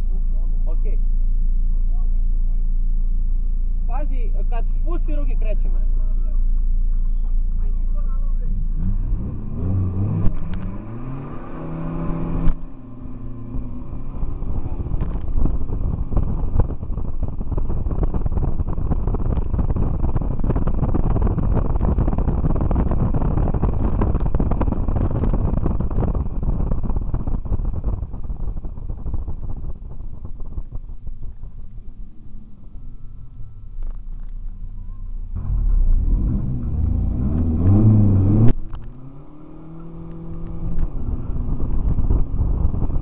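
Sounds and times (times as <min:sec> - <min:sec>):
car engine at full throttle: 0:00.0 - 0:43.0
road and wind noise: 0:00.0 - 0:43.0.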